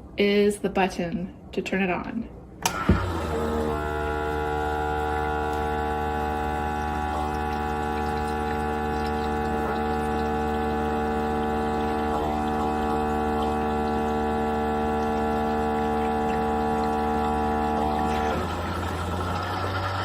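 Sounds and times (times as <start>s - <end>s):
coffee maker pump humming: 2.6s - 20.0s.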